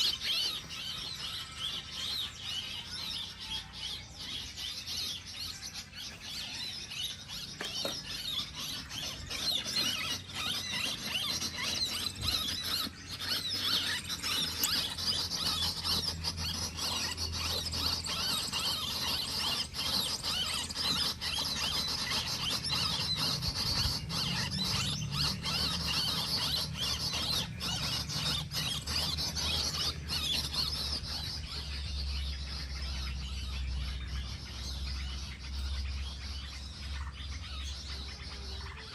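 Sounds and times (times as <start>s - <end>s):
small birds chittering and squealing: 0.0s - 38.9s.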